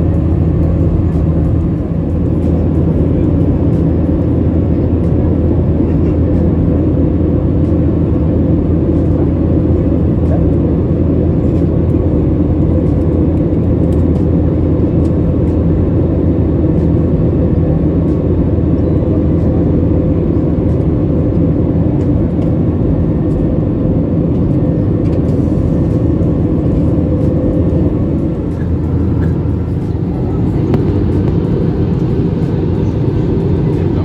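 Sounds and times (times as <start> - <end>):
jet engines droning in cabin: 0.0 - 34.0.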